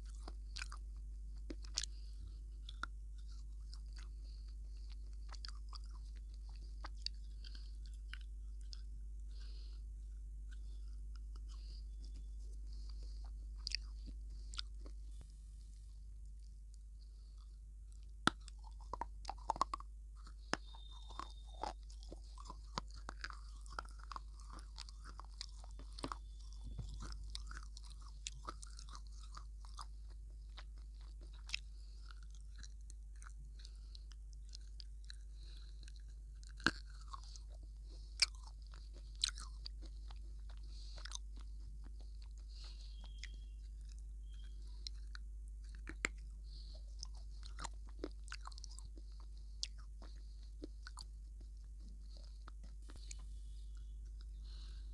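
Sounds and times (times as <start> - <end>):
crunchy biting and chewing: 0.0 - 15.3, 17.0 - 54.9
soft mouth sounds: 0.0 - 54.9.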